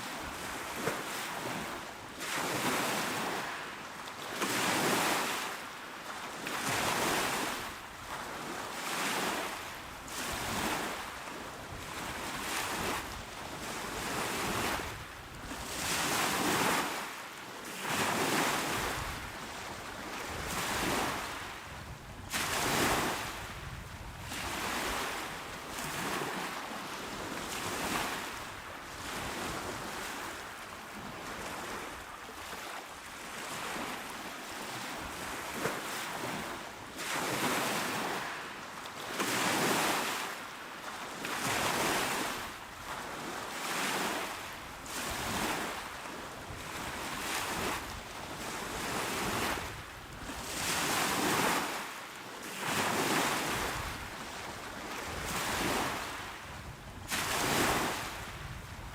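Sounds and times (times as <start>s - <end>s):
sea waves washing onto shore: 0.0s - 58.9s.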